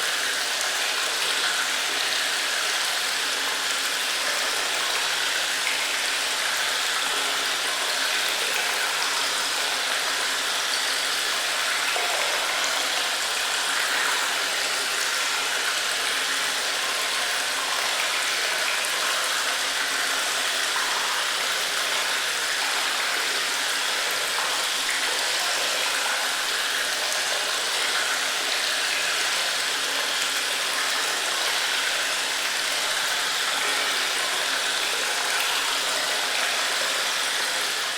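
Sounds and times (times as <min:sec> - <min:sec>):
running water rushing in a cave: 0:00.0 - 0:37.9.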